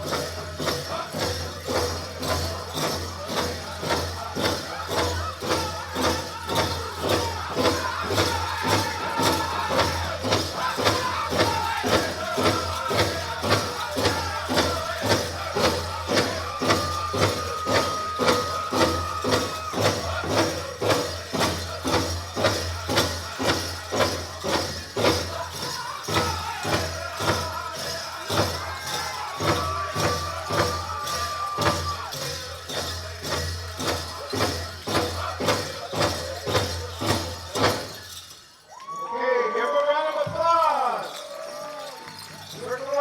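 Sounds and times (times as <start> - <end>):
big drum steady beat: 0.0 - 38.1
high voices singing: 0.1 - 38.0.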